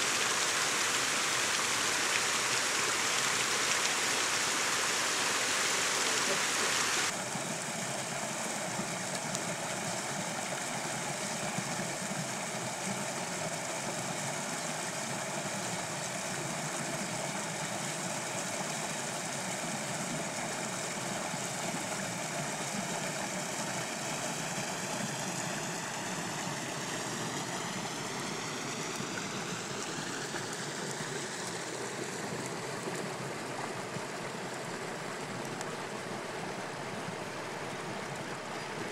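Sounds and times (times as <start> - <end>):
brook trickling: 0.0 - 38.9.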